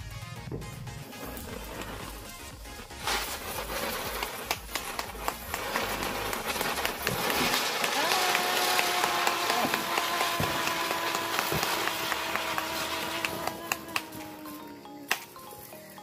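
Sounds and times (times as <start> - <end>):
firework crackles and pops: 0.4 - 16.0
spinner firework hissing: 0.4 - 16.0.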